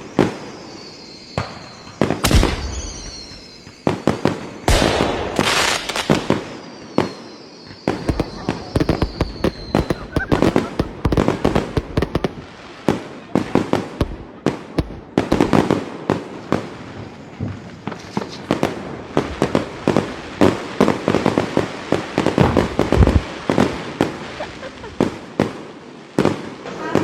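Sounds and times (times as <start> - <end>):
firecrackers banging and popping: 1.3 - 27.0.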